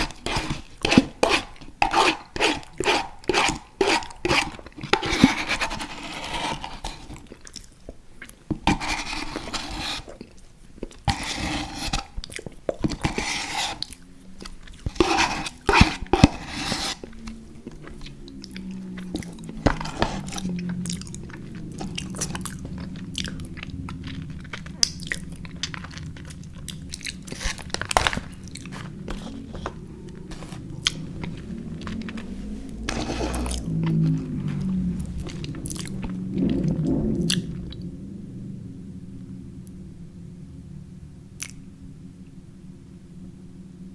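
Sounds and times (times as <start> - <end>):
crunchy bites and chewing: 0.0 - 37.5.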